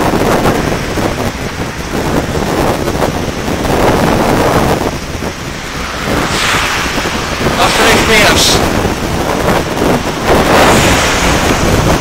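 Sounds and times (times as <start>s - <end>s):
wind buffeting a microphone: 0.0s - 12.0s.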